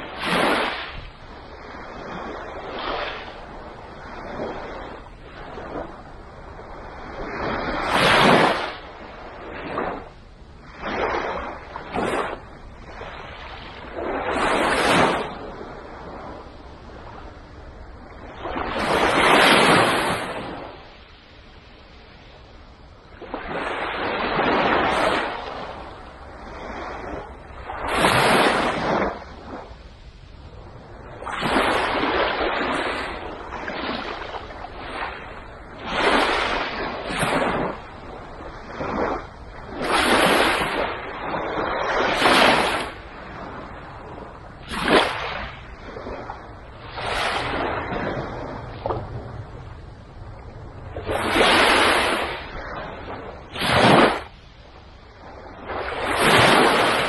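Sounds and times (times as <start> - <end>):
small waves breaking on sand: 0.0 - 57.0.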